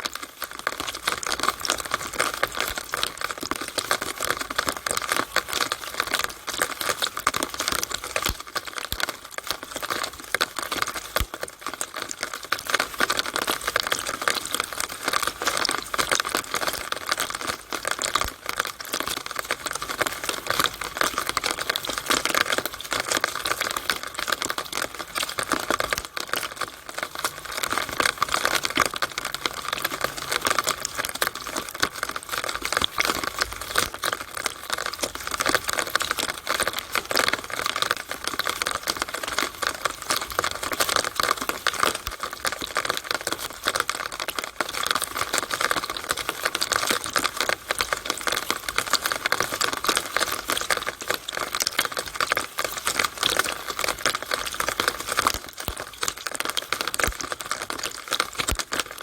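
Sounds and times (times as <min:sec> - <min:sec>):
rainwater in a downspout: 0:00.0 - 0:59.0.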